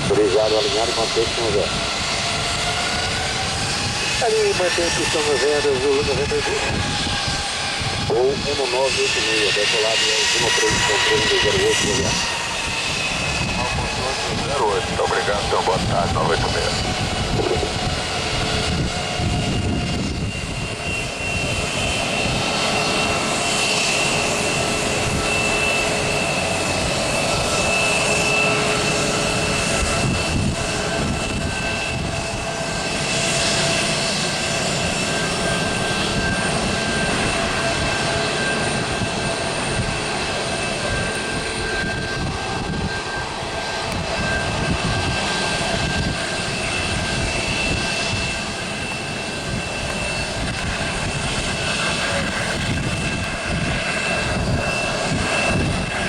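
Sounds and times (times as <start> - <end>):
aircraft engine running: 0.0 - 56.0.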